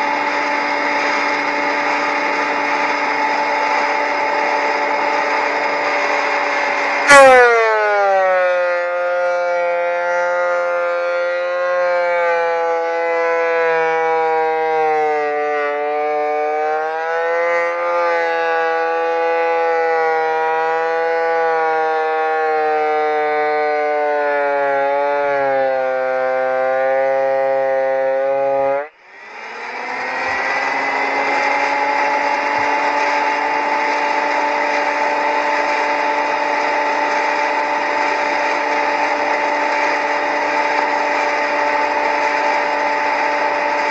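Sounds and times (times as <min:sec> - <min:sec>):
planer motor whining: 0:00.0 - 0:43.9.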